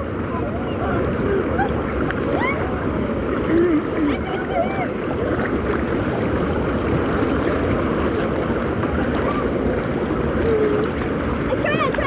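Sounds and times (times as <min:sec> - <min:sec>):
river water rushing: 0:00.0 - 0:12.0
wind on microphone: 0:00.0 - 0:12.0.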